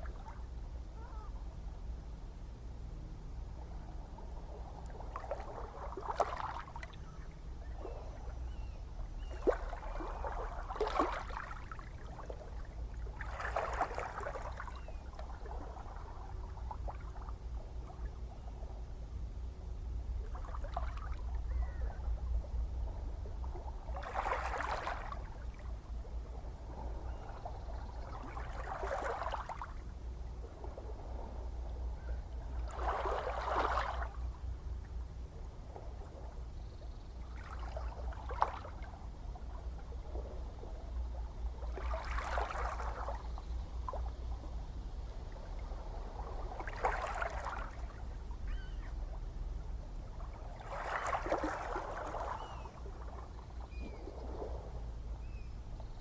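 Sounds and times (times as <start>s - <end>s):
low rumble of surf: 0.0s - 56.0s.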